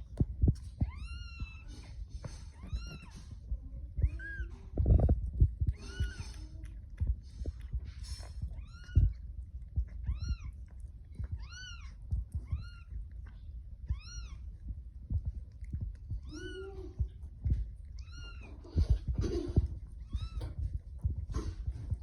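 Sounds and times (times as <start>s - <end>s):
low thumps: 0.0s - 22.0s.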